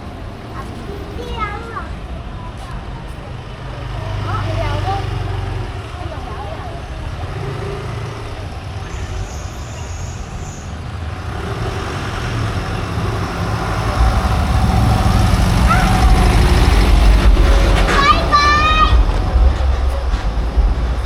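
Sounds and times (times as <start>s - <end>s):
motor vehicle engine rumble: 0.0s - 21.0s.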